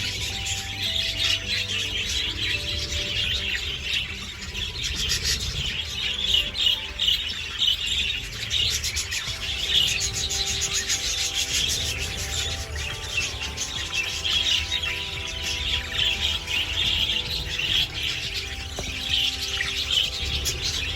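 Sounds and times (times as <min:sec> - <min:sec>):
flock of budgerigars chirping: 0:00.0 - 0:20.9.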